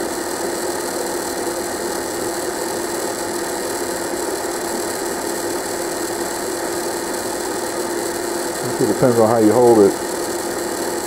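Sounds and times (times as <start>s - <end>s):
dehydrator fan motor humming: 0.0s - 11.0s.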